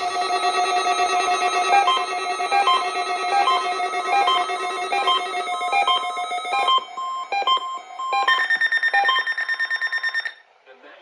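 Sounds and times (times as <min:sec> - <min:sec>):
electronic tune of bright notes: 0:00.0 - 0:10.3.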